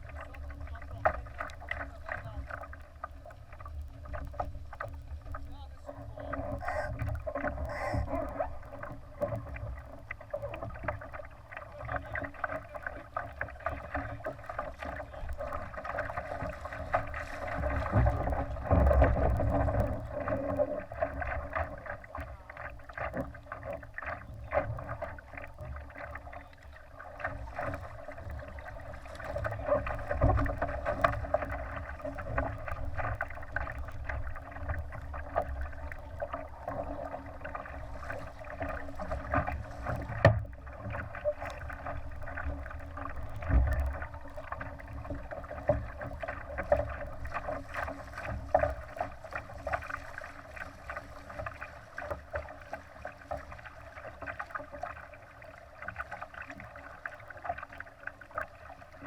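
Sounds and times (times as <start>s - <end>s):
water splashing along a boat hull: 0.0s - 59.0s.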